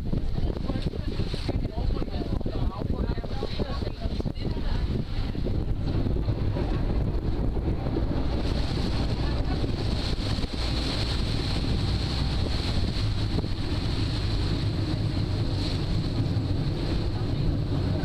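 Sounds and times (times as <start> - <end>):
boat engine: 0.0 - 18.0
water washing along hull: 0.0 - 18.0
wind buffeting microphone: 0.0 - 18.0.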